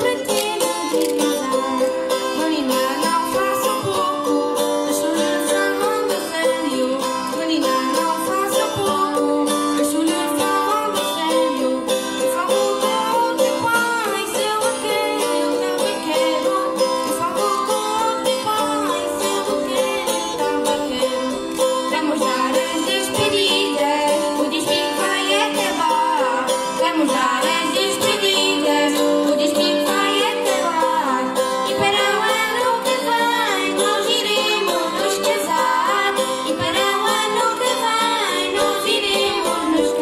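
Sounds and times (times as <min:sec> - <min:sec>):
plucked string folk music: 0:00.0 - 0:40.0.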